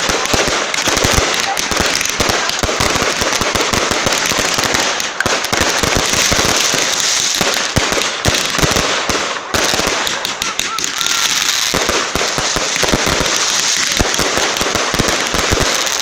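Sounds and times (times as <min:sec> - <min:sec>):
fireworks rapid bangs and crackles: 0:00.0 - 0:16.0.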